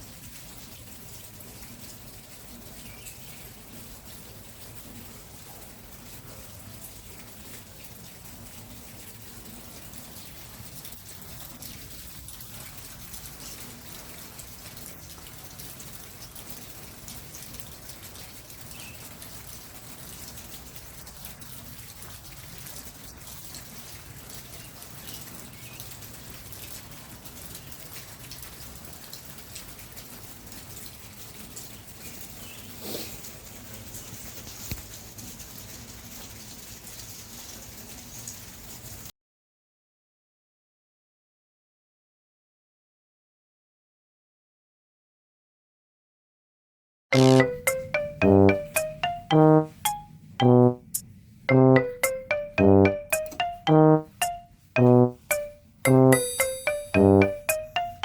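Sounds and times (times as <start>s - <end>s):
rain drops ticking: 0.0s - 39.1s, 47.2s - 58.0s.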